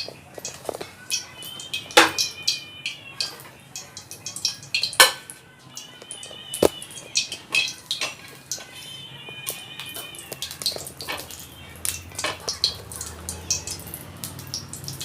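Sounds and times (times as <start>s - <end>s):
kitchen utensils clinking: 0.0s - 13.9s.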